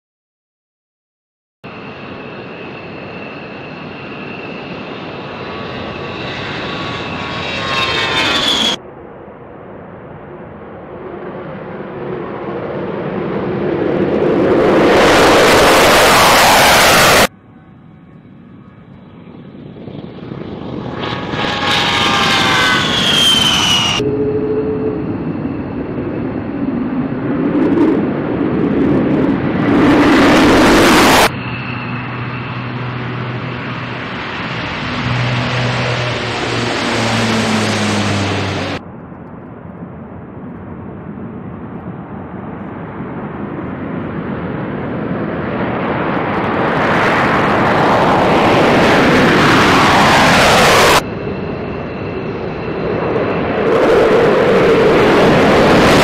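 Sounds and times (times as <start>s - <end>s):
jet engines taking off: 1.7s - 56.0s.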